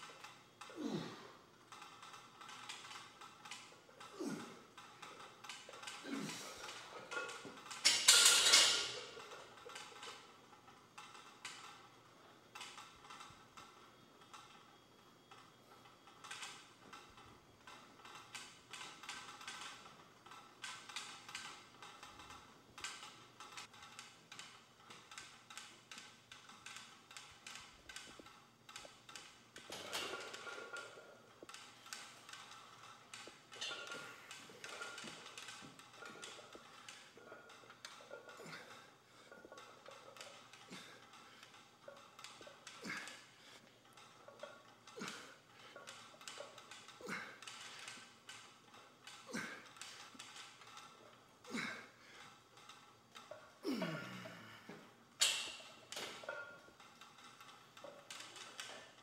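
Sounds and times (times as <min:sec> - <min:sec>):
gym equipment clicks and taps: 0:00.0 - 0:11.9, 0:15.3 - 0:59.0.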